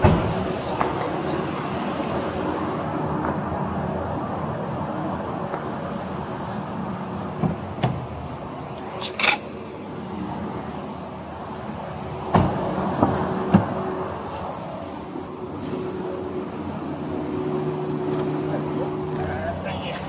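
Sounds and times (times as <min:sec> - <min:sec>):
vehicle running with low hum: 0:00.0 - 0:20.0.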